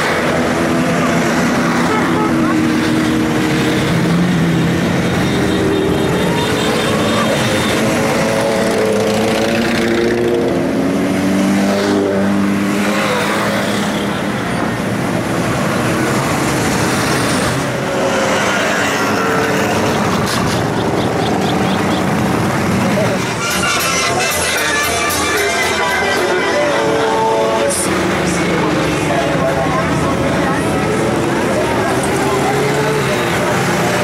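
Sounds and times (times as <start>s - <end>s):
motorcycle engines passing: 0.0s - 34.0s.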